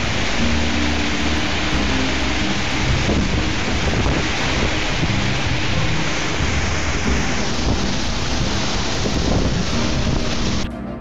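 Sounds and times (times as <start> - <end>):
wind driving heavy rain: 0.0 - 10.7
wind buffeting microphone: 0.0 - 10.8
low sustained music notes: 0.0 - 11.0.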